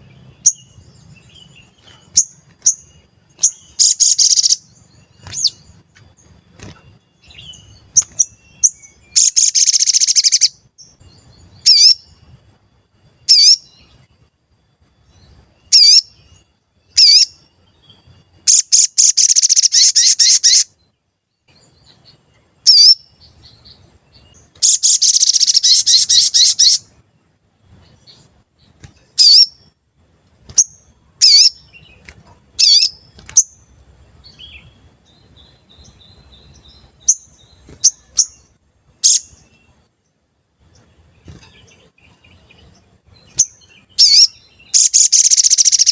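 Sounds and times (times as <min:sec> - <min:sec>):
bird fast twittering: 0:00.0 - 0:12.2, 0:13.2 - 0:14.0, 0:15.2 - 0:20.7, 0:21.9 - 0:26.9, 0:27.8 - 0:29.6, 0:30.5 - 0:39.6, 0:41.2 - 0:45.9
bird sharp chirps: 0:00.0 - 0:12.4, 0:13.2 - 0:14.1, 0:15.0 - 0:20.8, 0:21.5 - 0:26.9, 0:27.8 - 0:29.8, 0:30.4 - 0:39.8, 0:40.7 - 0:45.9.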